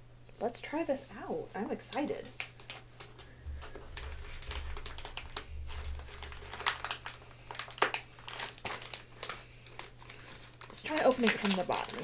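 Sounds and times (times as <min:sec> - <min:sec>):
paper crinkling and crackling: 0:01.5 - 0:12.0.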